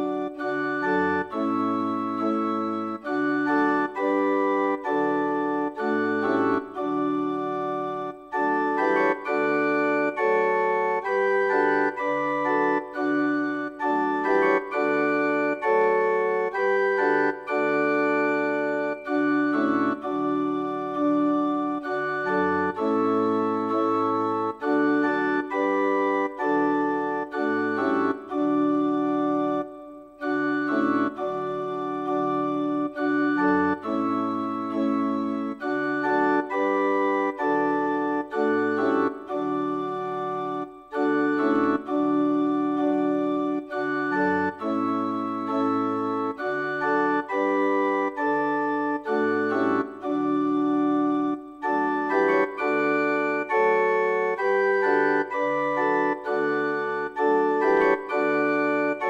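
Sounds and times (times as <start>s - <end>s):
organ playing sustained chords: 0.0s - 59.0s.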